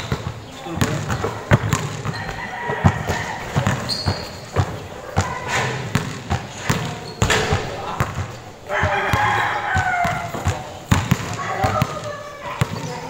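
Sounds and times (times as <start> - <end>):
basketballs bouncing on court floor: 0.0 - 13.0.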